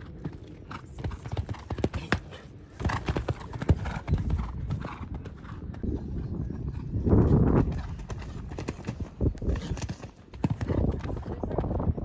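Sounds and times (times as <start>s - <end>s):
horse hoofbeats on sand: 0.0s - 12.0s.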